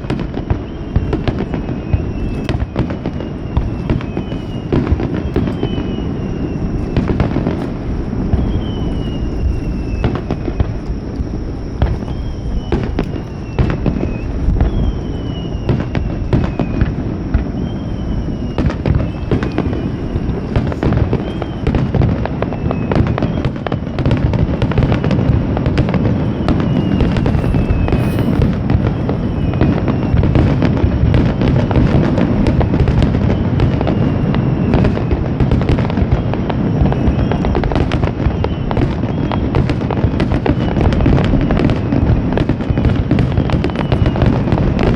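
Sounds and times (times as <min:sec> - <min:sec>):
falling firework whistles: 0:00.0 - 0:44.9
fireworks shell bursts and crackling: 0:00.0 - 0:44.9.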